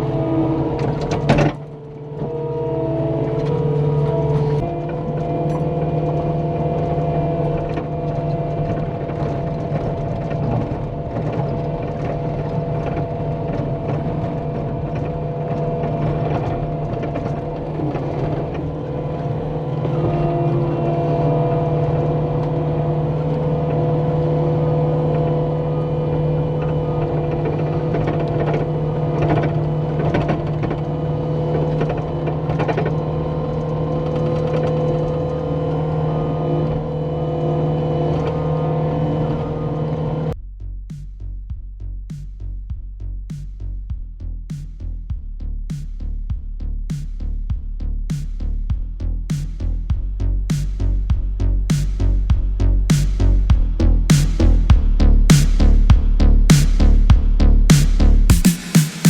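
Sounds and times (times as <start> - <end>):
engine running steadily: 0.0 - 41.2, 42.1 - 59.0.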